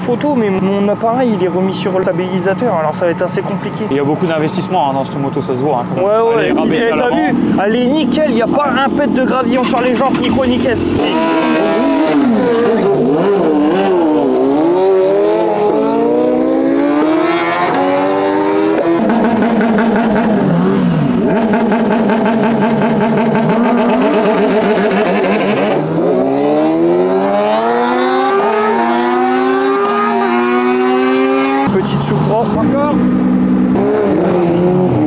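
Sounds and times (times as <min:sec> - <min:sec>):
drag-race engines accelerating: 0:00.0 - 0:35.0.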